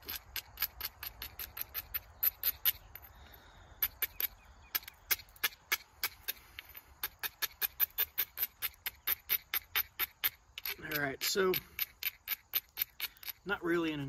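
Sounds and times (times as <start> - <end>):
abrader scraping flint: 0.0 - 14.0.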